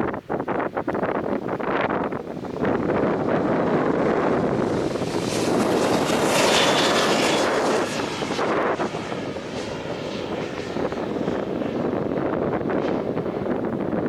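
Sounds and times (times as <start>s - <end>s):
jet engines passing close by: 0.0s - 14.0s.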